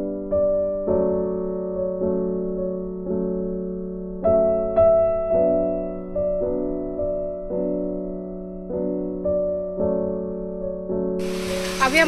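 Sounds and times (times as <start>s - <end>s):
slow soft piano: 0.0s - 12.0s.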